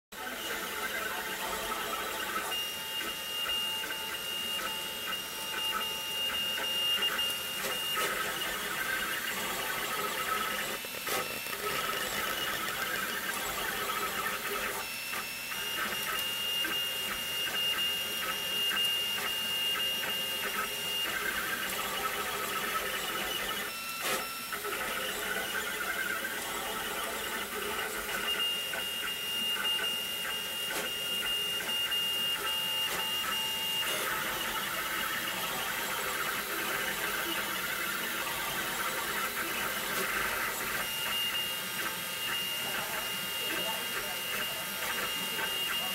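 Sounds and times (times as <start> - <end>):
stepper motors whining: 0.2 - 45.9.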